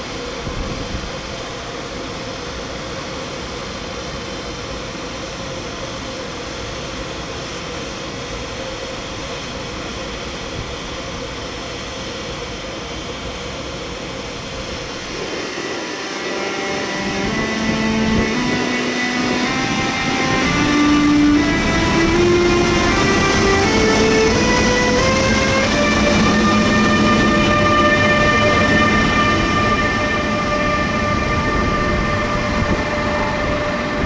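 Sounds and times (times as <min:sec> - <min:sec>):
electric locomotive motors: 0:00.0 - 0:34.0
electric train humming: 0:00.0 - 0:34.0.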